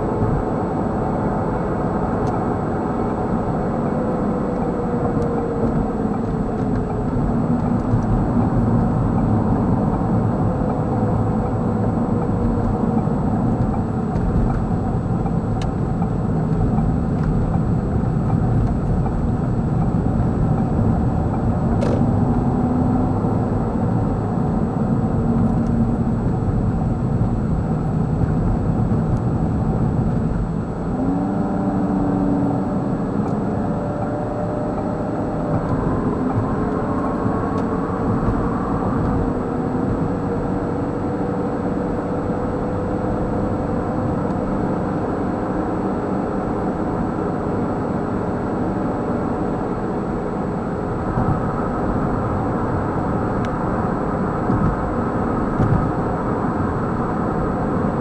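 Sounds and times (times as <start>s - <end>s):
tyre and engine rumble in car: 0.0s - 58.0s.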